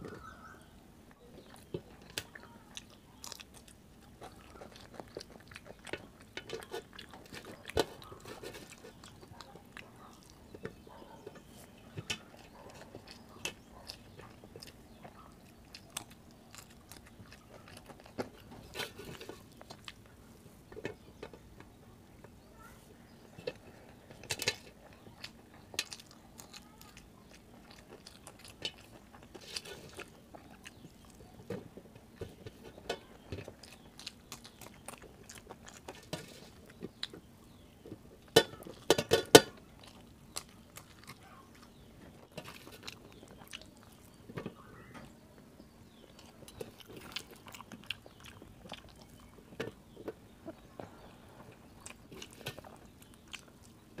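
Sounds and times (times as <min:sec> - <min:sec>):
chewing and lip smacks: 0:00.0 - 0:22.4, 0:23.0 - 0:54.0.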